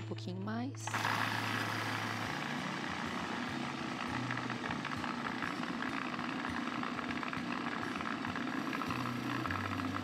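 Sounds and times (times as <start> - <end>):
food processor running: 0.7 - 10.0.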